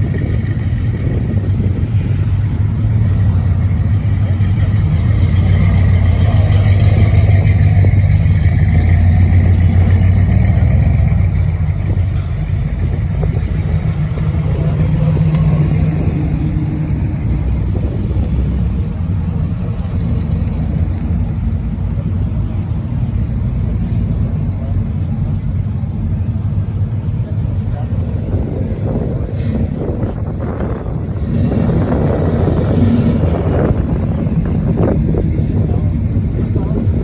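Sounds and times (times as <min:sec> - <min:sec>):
car engine rumbling: 0:00.0 - 0:37.0.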